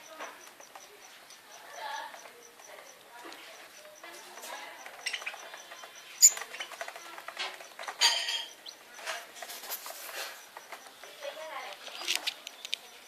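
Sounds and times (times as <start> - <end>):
lovebirds chirping and chattering: 0.0 - 13.0.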